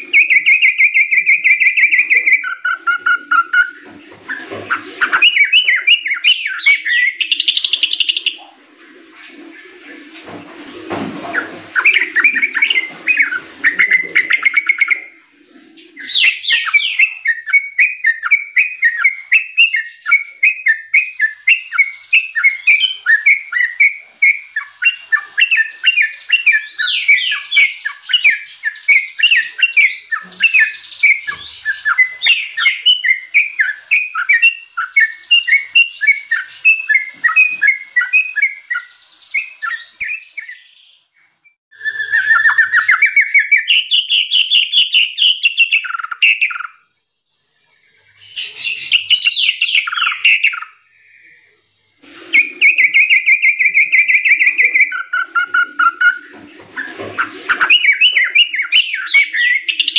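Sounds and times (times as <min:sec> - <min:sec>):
bulbul singing: 0:00.0 - 0:03.9, 0:04.7 - 0:08.5, 0:11.8 - 0:15.2, 0:15.8 - 0:46.9, 0:52.4 - 0:59.9.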